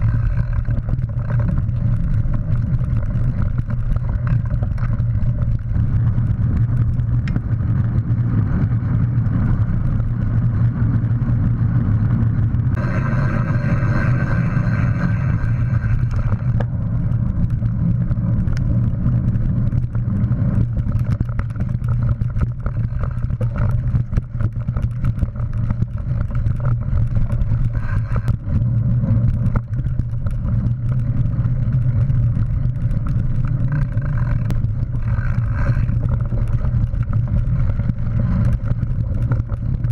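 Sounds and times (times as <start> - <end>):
bike rattles and clicks: 0.0 - 39.9
wind and tyres rumbling: 0.0 - 39.9.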